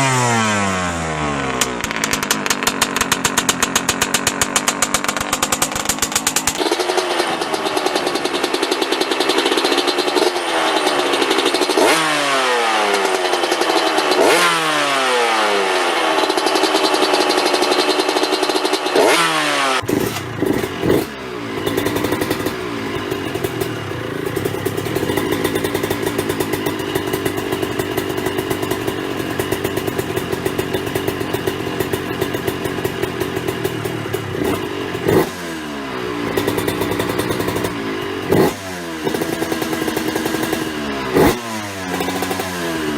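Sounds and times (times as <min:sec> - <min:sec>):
motorcycle engine idling: 0:00.0 - 0:42.9
two-stroke engine revving: 0:00.0 - 0:42.9.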